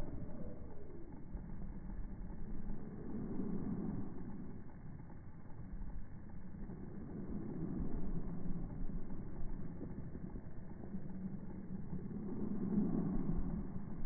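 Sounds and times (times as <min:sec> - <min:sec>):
low muffled rumble: 0:00.0 - 0:14.0.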